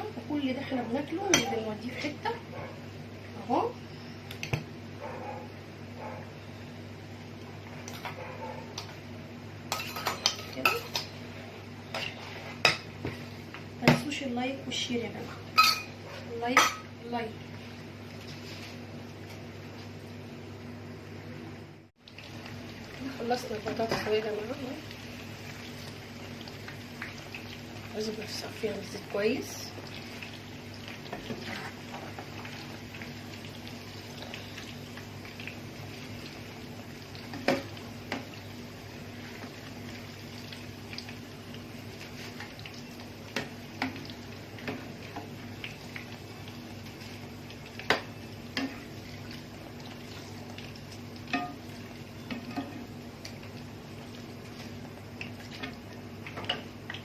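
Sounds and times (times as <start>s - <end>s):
potatoes sizzling in hot oil: 0.0s - 2.5s, 8.8s - 20.0s, 22.0s - 57.0s.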